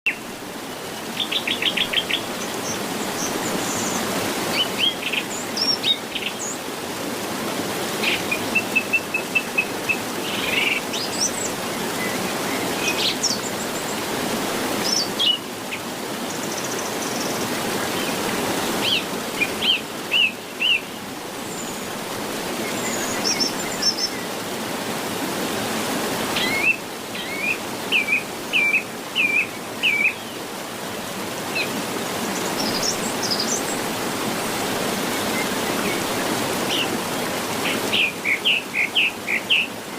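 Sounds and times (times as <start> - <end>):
wild birds chirping: 0.1 - 6.8, 7.8 - 24.6, 25.8 - 39.9.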